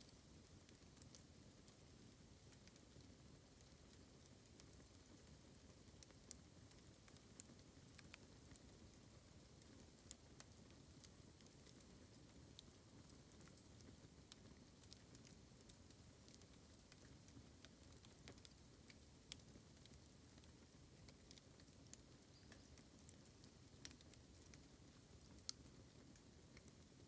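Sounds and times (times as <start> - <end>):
bamboo campfire crackling: 0.0 - 27.0.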